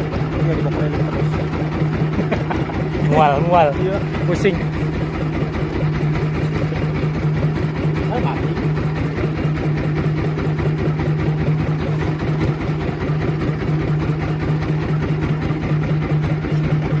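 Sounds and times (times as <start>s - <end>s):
small boat engine running: 0.0s - 17.0s.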